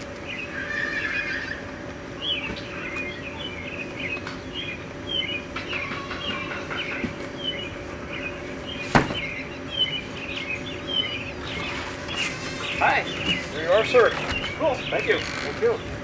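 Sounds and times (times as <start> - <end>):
birds chirping: 0.0 - 16.0
steady hum: 0.0 - 16.0.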